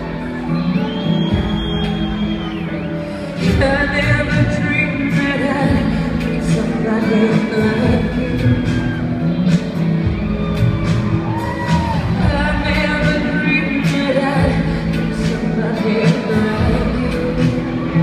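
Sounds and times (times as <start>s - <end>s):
live band playing slow song: 0.0s - 18.0s
woman singing: 0.0s - 18.0s.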